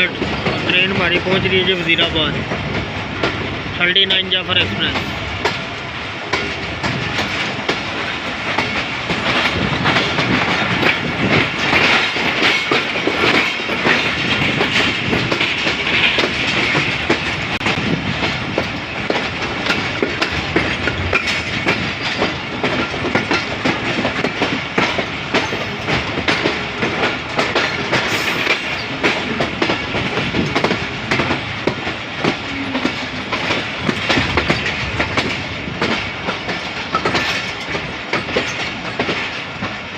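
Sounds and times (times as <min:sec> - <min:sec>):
train carriages rumbling and rattling: 0:00.0 - 0:39.9
wheels clicking over rail joints: 0:00.0 - 0:39.9.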